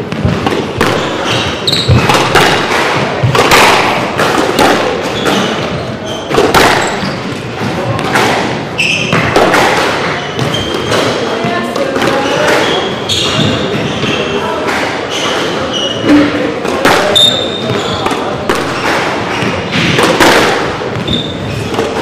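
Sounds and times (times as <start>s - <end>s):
shoes squeaking on wooden floor: 0.0s - 22.0s
squash ball hitting rackets and walls: 0.0s - 22.0s.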